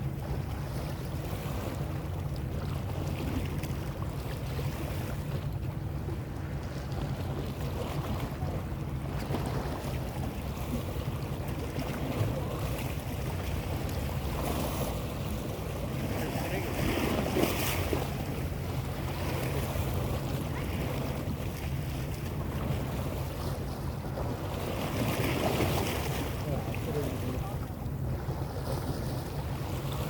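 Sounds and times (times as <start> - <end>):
sea waves washing: 0.0 - 30.0
wind buffeting microphone: 0.0 - 30.0.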